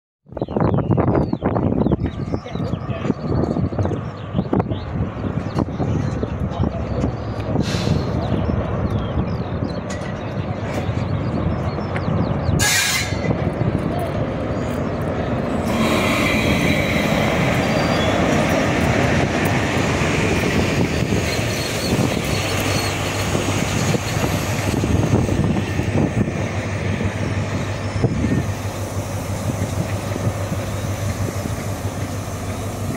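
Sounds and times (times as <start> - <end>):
diesel train engine drone: 0.3 - 32.9
wheel and rail rumble: 0.3 - 32.9.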